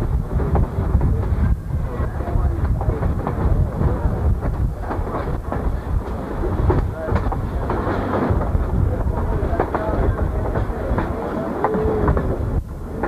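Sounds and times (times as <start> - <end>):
wheel clatter and knocks: 0.0 - 12.4
train car rumbling on track: 0.0 - 13.0
wind buffeting microphone: 0.0 - 13.0.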